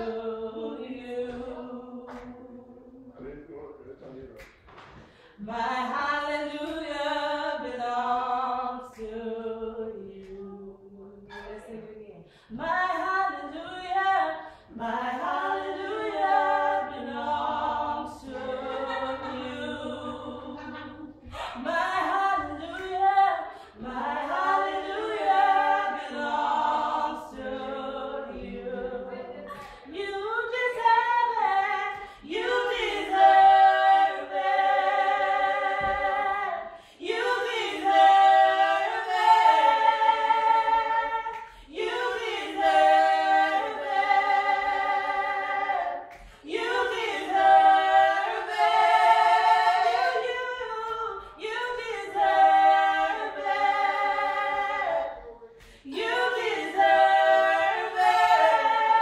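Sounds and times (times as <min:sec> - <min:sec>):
women singing gospel a cappella: 0:00.0 - 0:59.0.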